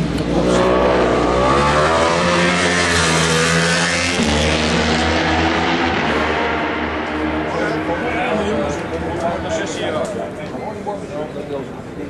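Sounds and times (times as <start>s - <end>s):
racing engines passing: 0.0s - 11.5s.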